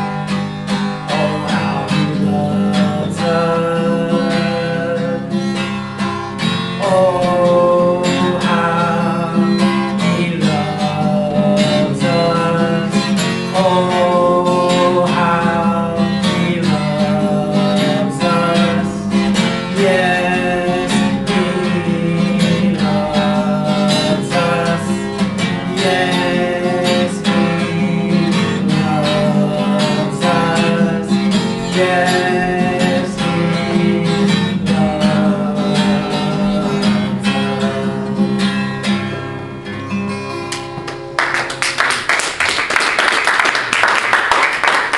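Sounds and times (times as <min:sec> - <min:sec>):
acoustic guitar strumming: 0:00.0 - 0:41.7
slow worship song: 0:00.0 - 0:42.5.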